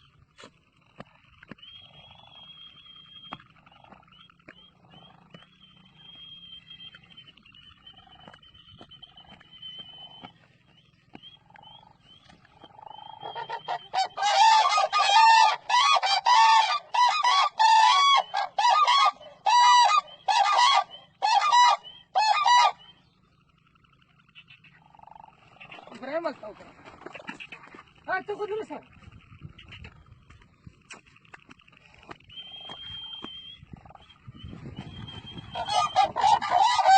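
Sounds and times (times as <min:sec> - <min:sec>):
cranes calling: 0:00.0 - 0:36.9.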